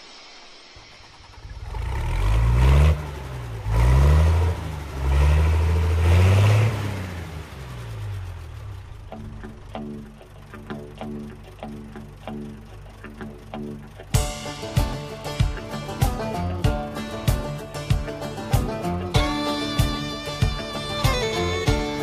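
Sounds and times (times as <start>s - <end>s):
vehicle engine accelerating: 0.6s - 22.0s.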